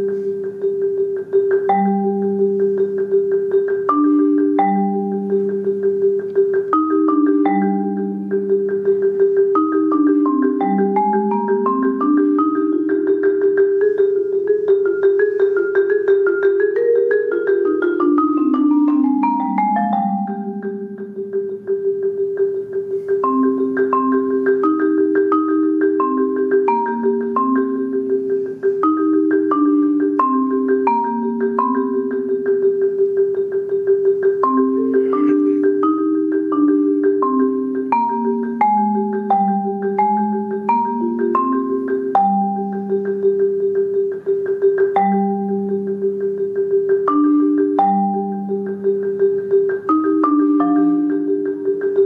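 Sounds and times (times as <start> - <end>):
marimba rolled chorale: 0.0 - 52.0.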